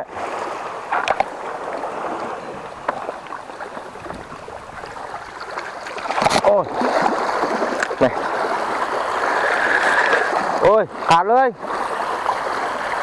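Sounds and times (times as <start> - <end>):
sea water washing against rocks: 0.0 - 13.0.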